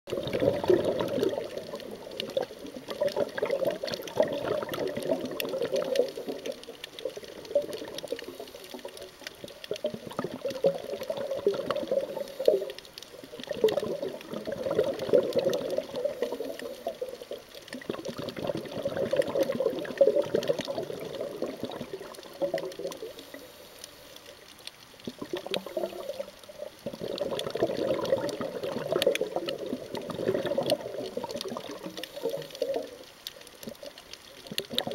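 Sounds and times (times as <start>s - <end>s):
underwater exhaled bubbles: 0.1s - 34.9s.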